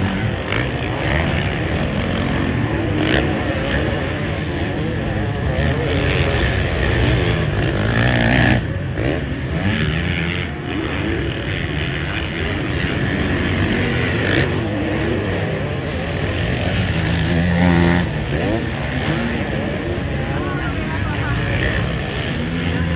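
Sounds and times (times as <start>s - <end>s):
motocross bike engine revving: 0.0s - 22.9s.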